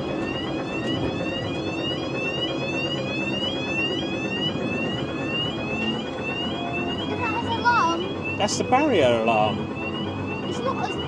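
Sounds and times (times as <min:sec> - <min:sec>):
level-crossing alarm sweeping tone: 0:00.0 - 0:11.0.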